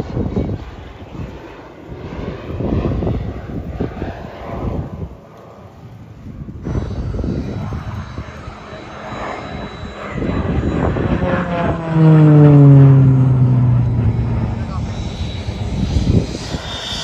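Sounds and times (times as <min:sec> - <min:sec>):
turboprop aircraft flying overhead: 0:00.0 - 0:17.0.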